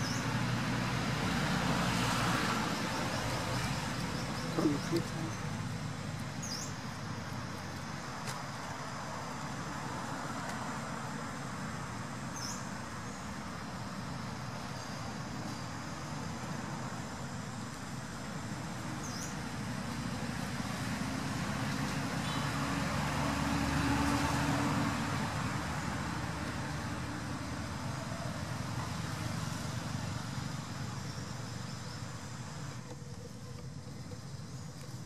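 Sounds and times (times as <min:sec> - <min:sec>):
road vehicle passing: 0:00.0 - 0:35.0.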